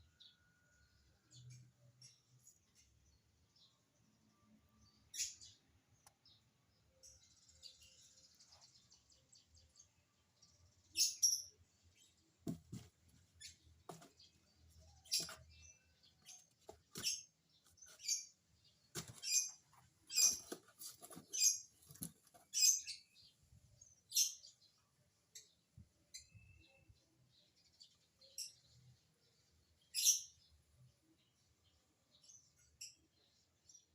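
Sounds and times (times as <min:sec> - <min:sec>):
lovebirds chirping: 0:00.1 - 0:33.9.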